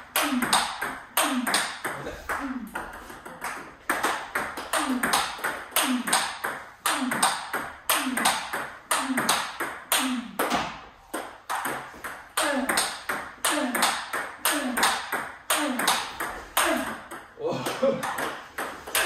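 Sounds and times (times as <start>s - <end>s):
table tennis ball hits: 0.0s - 19.0s.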